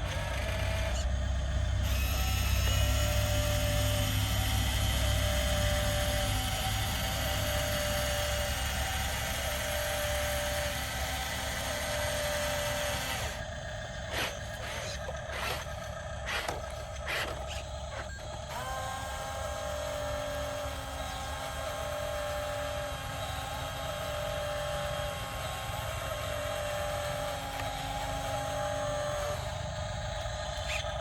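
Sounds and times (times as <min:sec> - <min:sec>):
high motor whine: 0:00.0 - 0:31.0
small electric motors and gearing: 0:00.0 - 0:31.0.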